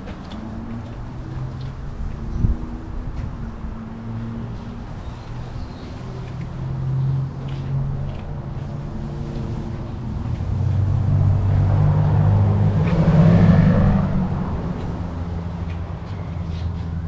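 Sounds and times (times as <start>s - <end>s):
motor vehicle engine running: 0.0s - 17.0s.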